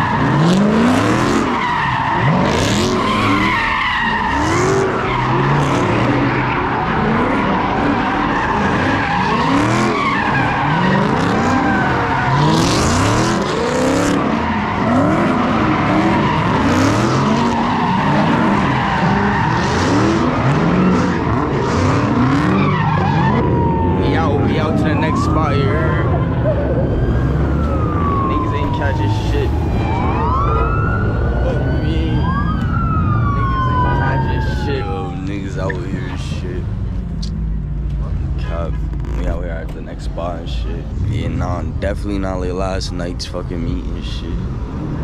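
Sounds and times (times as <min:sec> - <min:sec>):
tire squeal: 0:00.0 - 0:36.6, 0:38.0 - 0:39.5
car engines revving: 0:00.0 - 0:45.0.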